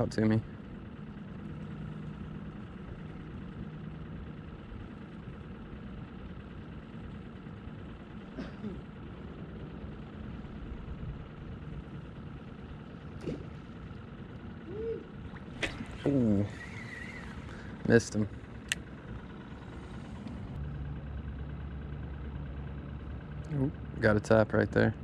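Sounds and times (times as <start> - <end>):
motor idling hum: 0.0 - 25.0.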